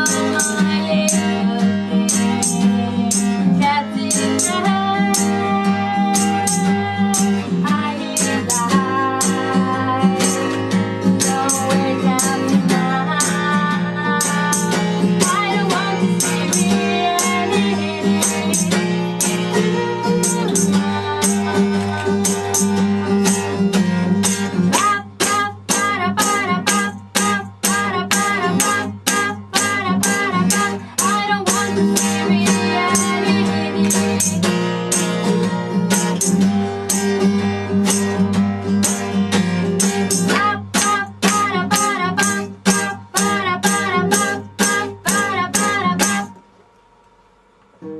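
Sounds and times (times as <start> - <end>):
person singing: 0.0 - 23.3, 24.7 - 36.4, 40.0 - 46.3
percussion beat: 0.0 - 46.5
guitar: 0.0 - 47.9.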